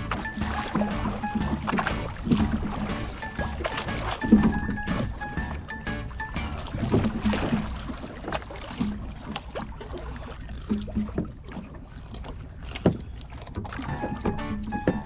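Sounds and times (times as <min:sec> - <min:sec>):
knocks and thumps on boat: 0:00.0 - 0:15.0
rumble of water: 0:00.0 - 0:15.0.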